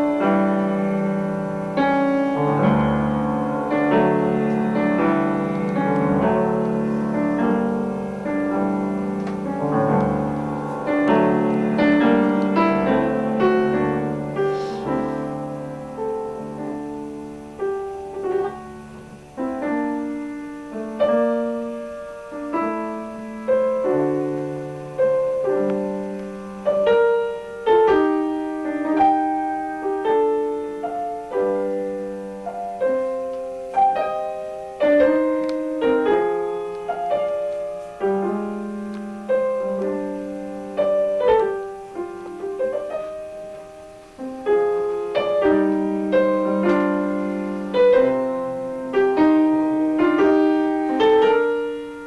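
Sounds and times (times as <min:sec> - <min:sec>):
slow piano piece: 0:00.0 - 0:52.0.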